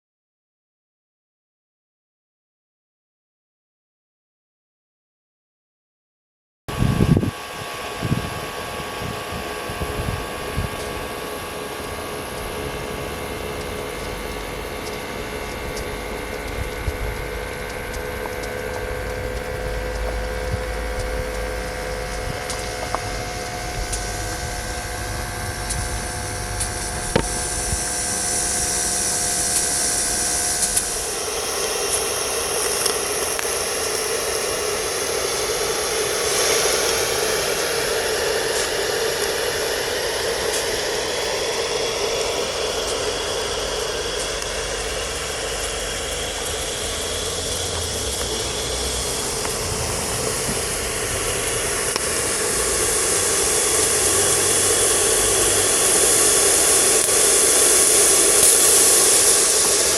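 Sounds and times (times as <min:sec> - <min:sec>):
model steam locomotive hissing: 0:06.7 - 0:59.9.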